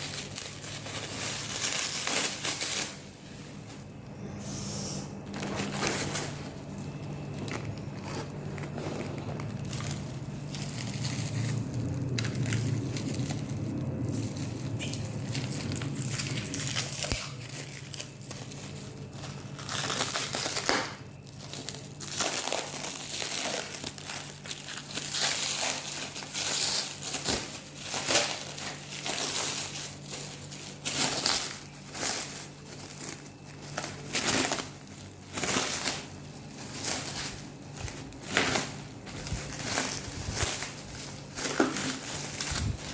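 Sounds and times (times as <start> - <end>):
plastic packaging crinkling: 0.0 - 4.2, 5.1 - 42.9
low steady hum: 0.0 - 42.9.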